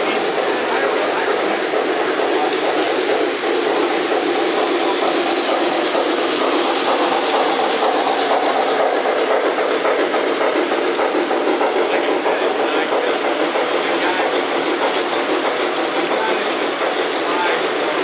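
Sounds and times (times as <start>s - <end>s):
model train wheels rumbling on track: 0.0s - 18.0s.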